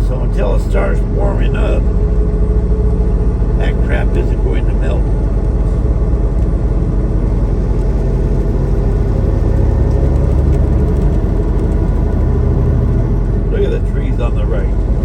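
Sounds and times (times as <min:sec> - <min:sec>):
truck engine drone from cab: 0:00.0 - 0:15.0.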